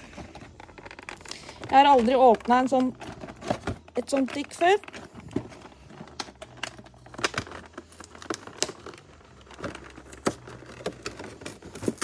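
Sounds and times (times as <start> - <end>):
cardboard packaging crinkling: 0.0 - 12.0.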